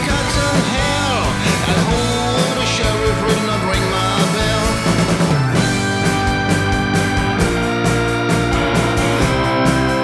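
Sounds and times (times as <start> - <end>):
blues-rock band playing: 0.0 - 10.0
sliding guitar notes: 0.0 - 10.0.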